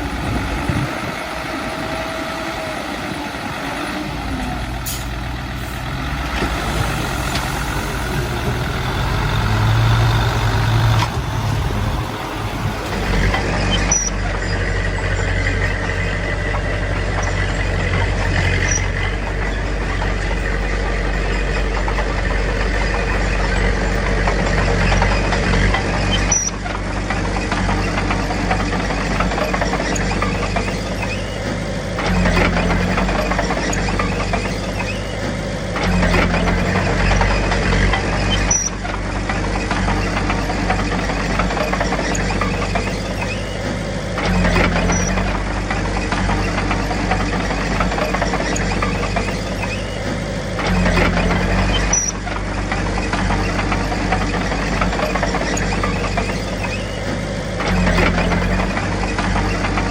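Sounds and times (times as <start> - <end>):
diesel machinery engine: 0.0 - 59.9.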